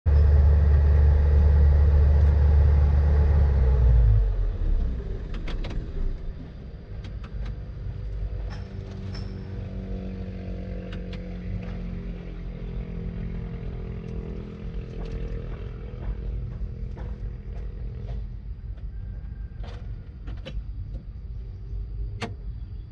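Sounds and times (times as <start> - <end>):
excavator diesel engine running: 0.1 - 20.8.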